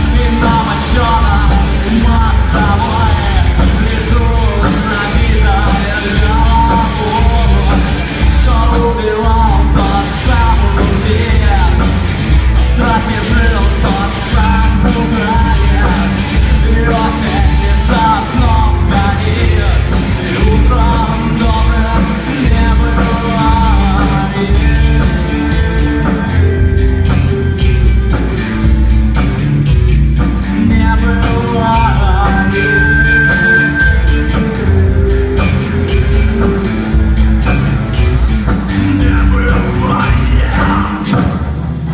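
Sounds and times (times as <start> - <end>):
rock band music: 0.0 - 41.9.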